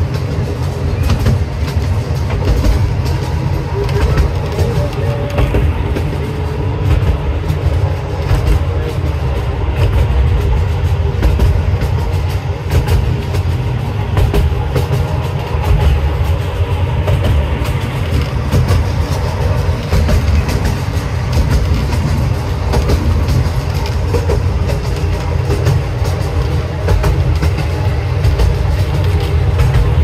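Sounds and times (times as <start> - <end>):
train low rumble: 0.0 - 30.0
wheels clicking on rails: 0.0 - 30.0.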